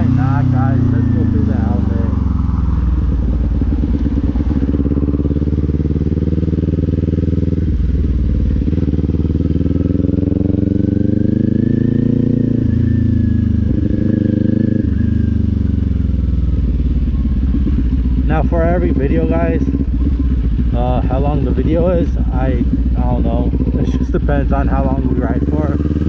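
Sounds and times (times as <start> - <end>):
motorcycle engine riding: 0.0 - 26.0.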